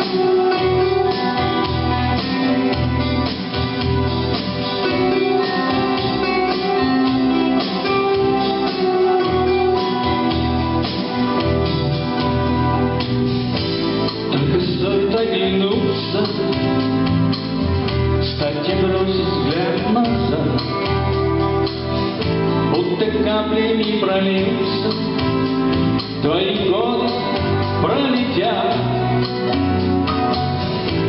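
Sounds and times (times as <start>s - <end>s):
instrumental backing music: 0.0s - 31.0s.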